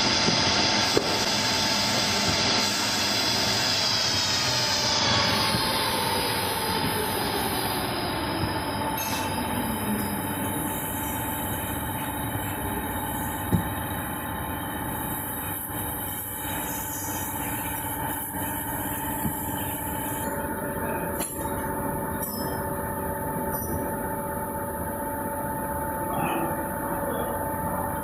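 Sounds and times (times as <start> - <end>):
factory machinery drone: 0.0 - 28.0
high machine whine: 0.0 - 28.0.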